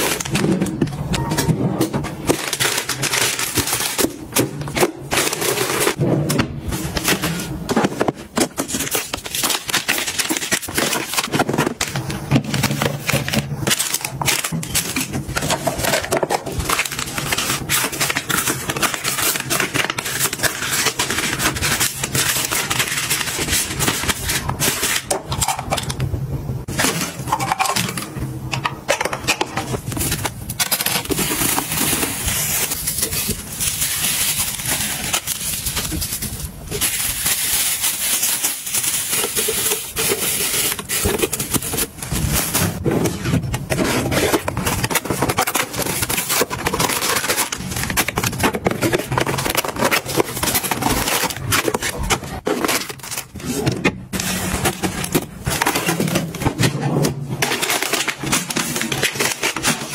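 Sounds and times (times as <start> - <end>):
plastic bags crinkling: 0.0 - 6.0, 6.8 - 59.9.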